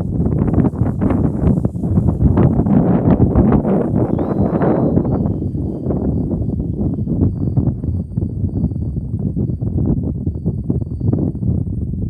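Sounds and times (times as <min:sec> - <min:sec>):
faint high whine: 0:00.0 - 0:12.0
wind buffeting microphone: 0:00.0 - 0:12.0.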